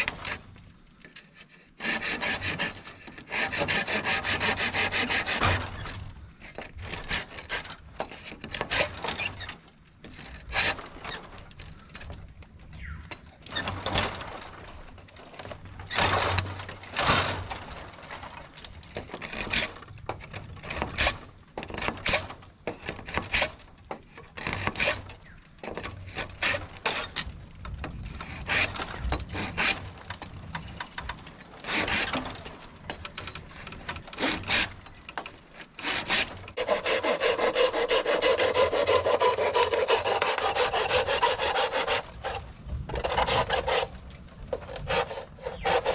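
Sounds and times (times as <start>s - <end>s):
sawing: 0.0s - 11.4s, 15.4s - 30.2s, 31.4s - 45.9s.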